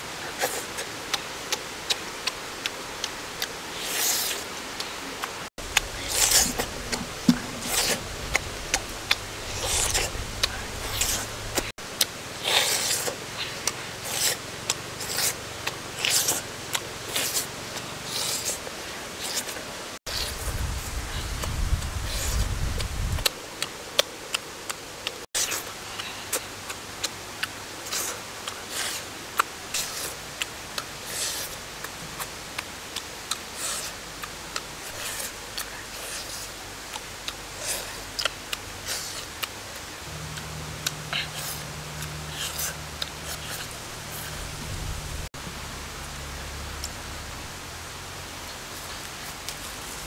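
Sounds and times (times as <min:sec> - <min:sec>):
steady hiss: 0:00.0 - 0:50.0
chewing and lip-smacking: 0:00.4 - 0:18.6, 0:21.1 - 0:45.2.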